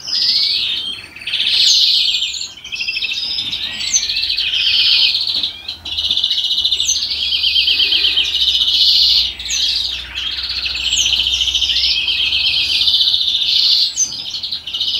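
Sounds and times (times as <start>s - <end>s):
finch singing trills: 0.0s - 14.9s
high down-slurred bird calls: 0.0s - 14.9s.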